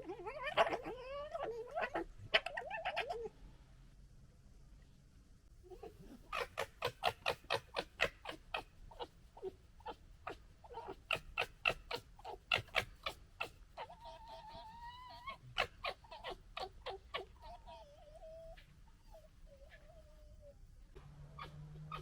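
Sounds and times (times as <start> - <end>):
fox whining: 0.0 - 3.3, 5.6 - 22.0
foxes chattering: 0.0 - 3.3, 5.7 - 20.6, 21.3 - 22.0.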